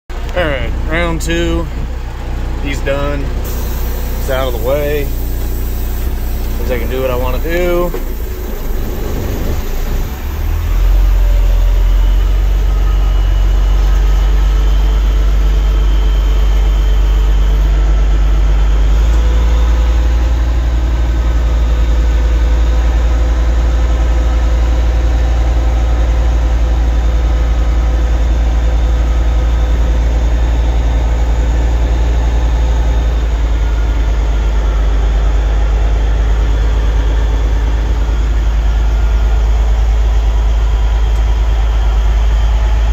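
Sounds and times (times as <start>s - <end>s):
truck diesel engine running: 0.1s - 42.9s.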